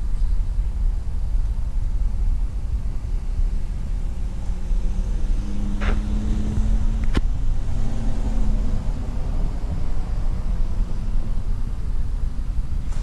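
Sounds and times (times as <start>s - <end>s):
road traffic rumble: 0.0s - 13.0s
vehicle passing hum: 2.0s - 13.0s.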